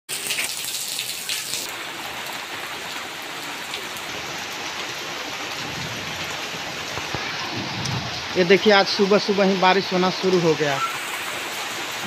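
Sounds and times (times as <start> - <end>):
heavy rain on concrete: 0.1 - 12.0.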